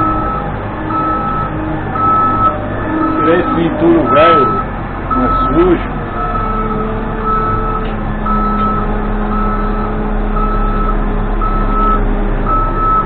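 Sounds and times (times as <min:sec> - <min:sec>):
backup alarm beeping: 0:00.0 - 0:13.0
diesel engine running: 0:00.0 - 0:13.0.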